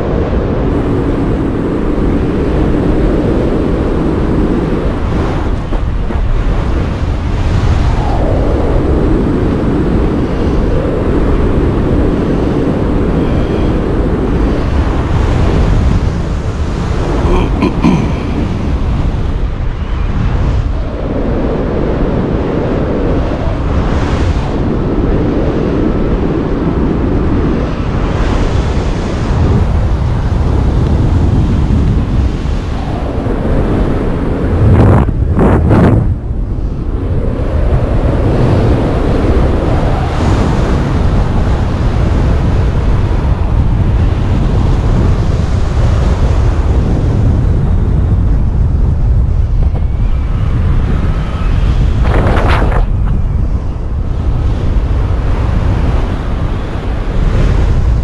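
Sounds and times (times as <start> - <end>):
wind buffeting the microphone: 0.0 - 58.0.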